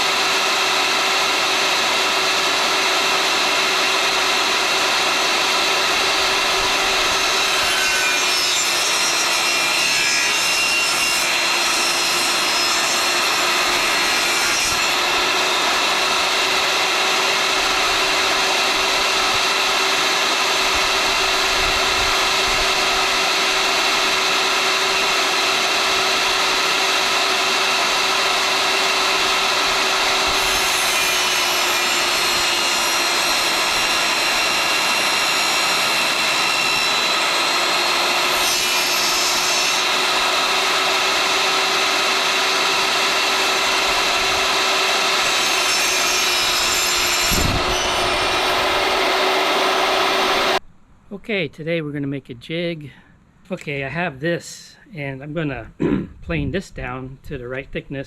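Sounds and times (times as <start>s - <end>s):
power saw cutting board: 0.0s - 50.6s.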